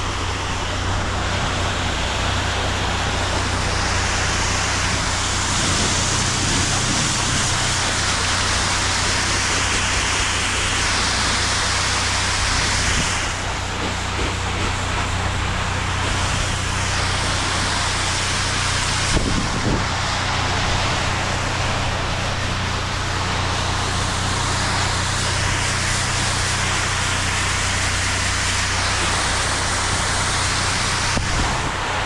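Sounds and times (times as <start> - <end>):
pressure washer motor hum: 0.0 - 32.0
water spray hissing: 0.0 - 32.0.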